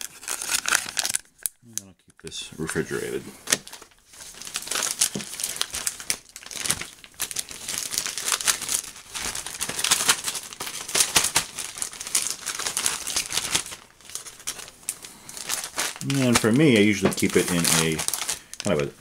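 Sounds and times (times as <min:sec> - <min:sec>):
plastic bags crinkling: 0:00.0 - 0:01.6, 0:02.6 - 0:18.9.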